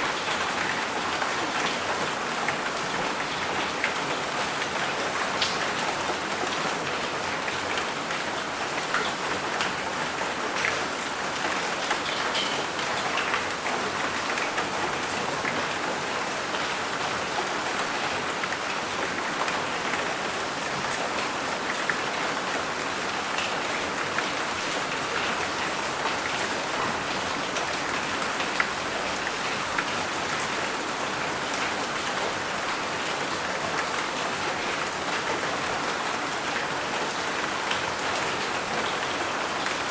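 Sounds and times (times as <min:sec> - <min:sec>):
steady rain falling: 0:00.0 - 0:39.9
raindrops ticking on a surface: 0:00.1 - 0:39.9.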